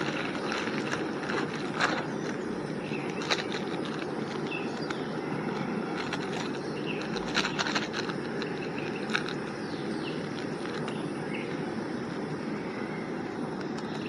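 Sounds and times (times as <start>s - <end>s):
bird chirps: 0.0s - 11.7s
steady rushing noise: 0.0s - 14.0s.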